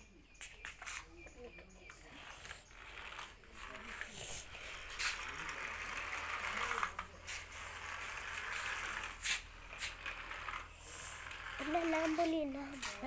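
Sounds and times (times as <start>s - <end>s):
toy motors and gears whirring: 0.0s - 13.0s.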